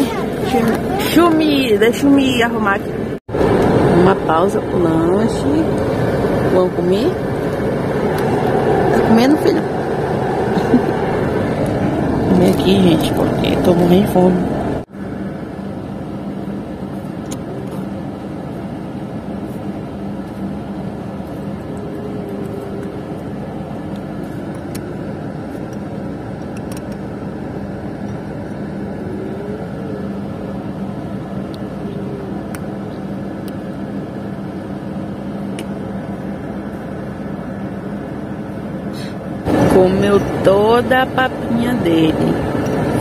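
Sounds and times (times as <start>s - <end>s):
bus engine hum: 0.0s - 43.0s
road and ventilation noise: 0.0s - 43.0s.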